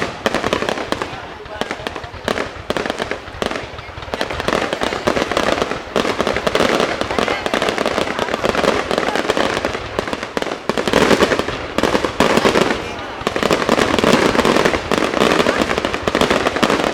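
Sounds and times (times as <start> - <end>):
fireworks bangs and crackles: 0.0 - 16.9.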